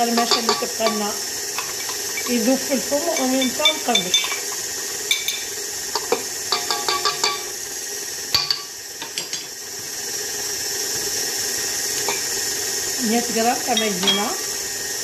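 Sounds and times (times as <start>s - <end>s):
stand mixer running: 0.0s - 15.0s.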